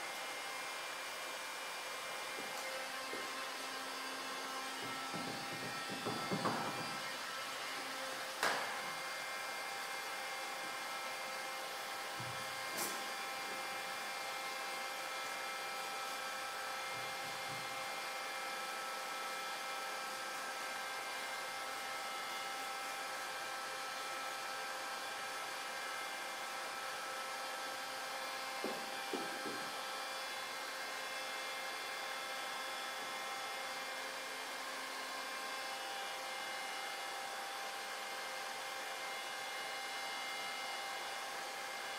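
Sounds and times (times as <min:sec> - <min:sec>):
machine hum with hiss: 0:00.0 - 0:41.9.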